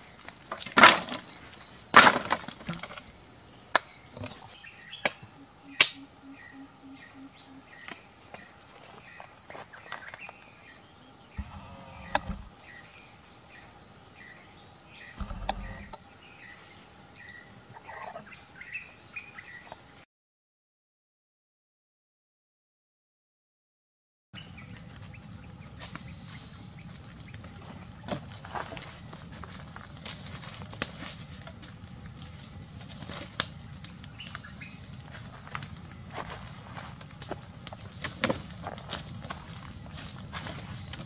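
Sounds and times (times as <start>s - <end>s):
insect drone: 0.0s - 20.0s, 24.4s - 41.0s.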